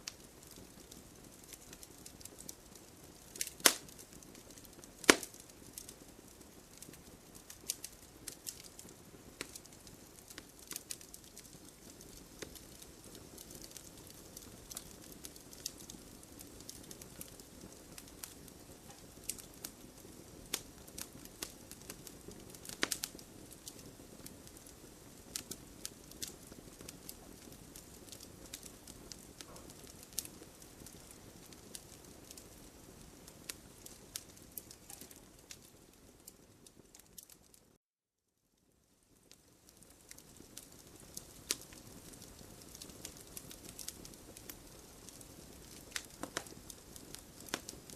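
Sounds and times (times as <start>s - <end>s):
low hiss of flames: 0.0s - 37.6s, 38.6s - 47.9s
campfire crackling and popping: 0.0s - 37.8s, 38.6s - 47.9s.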